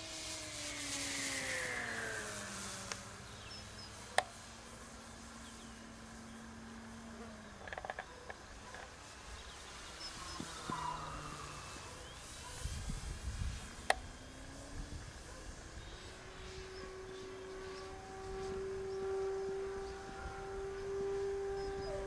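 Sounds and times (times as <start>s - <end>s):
model plane motor whining: 0.0s - 22.0s.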